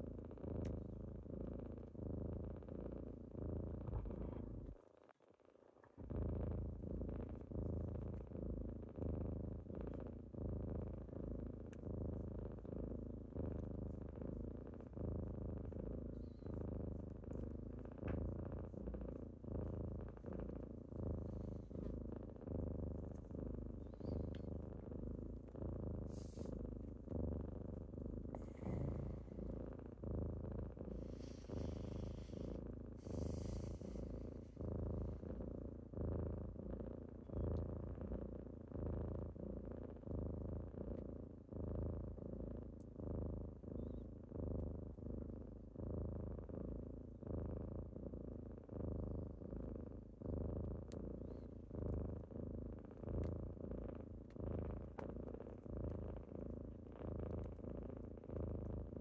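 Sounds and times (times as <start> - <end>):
kittens purring: 0.0 - 59.0.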